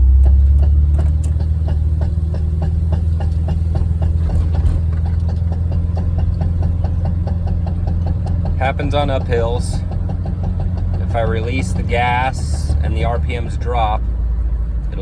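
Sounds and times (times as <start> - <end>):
engine droning: 0.0 - 15.0
engine popping: 0.0 - 15.0.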